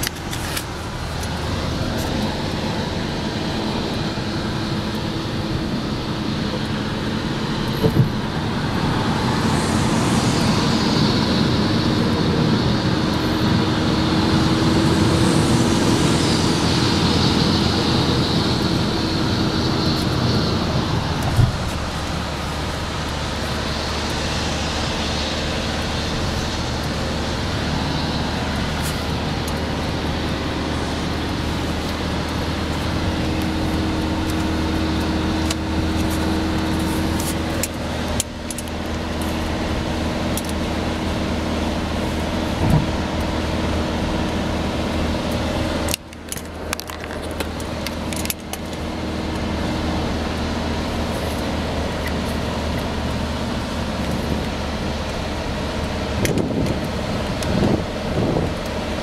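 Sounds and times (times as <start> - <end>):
low engine drone: 0.0 - 59.0
wind and road noise: 0.0 - 59.0.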